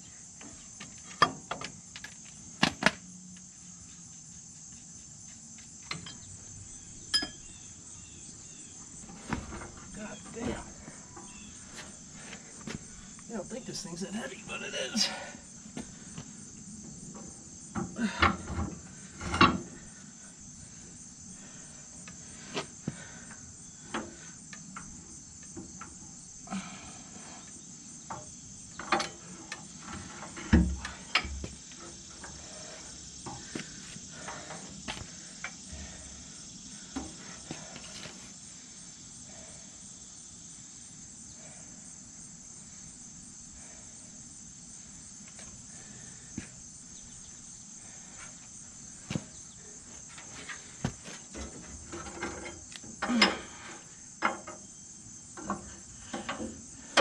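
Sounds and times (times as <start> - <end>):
high insect chorus: 0.0 - 57.0.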